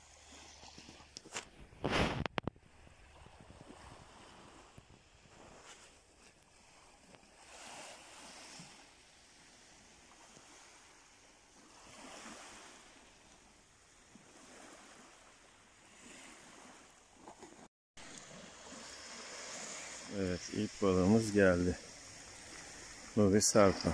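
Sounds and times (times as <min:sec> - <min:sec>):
small waves washing onto sand: 0:00.0 - 0:23.9.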